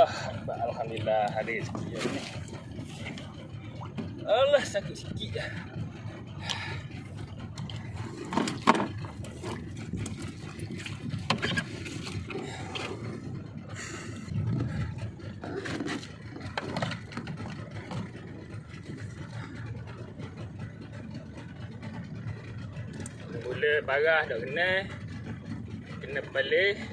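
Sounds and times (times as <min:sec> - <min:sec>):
boat engine idling: 0:00.0 - 0:26.9
knocks and scrapes on boat: 0:00.0 - 0:26.9.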